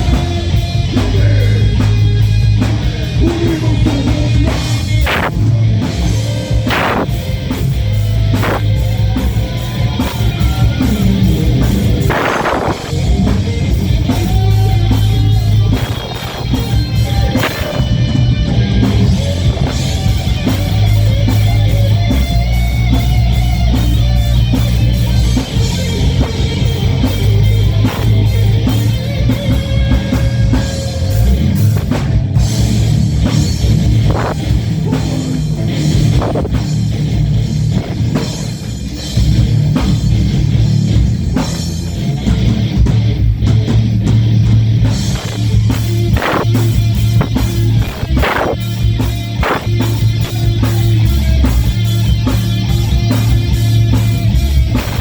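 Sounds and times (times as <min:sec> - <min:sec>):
bass guitar: 0:00.0 - 0:55.0
distorted electric guitars: 0:00.0 - 0:55.0
fast drum kit: 0:00.0 - 0:55.0.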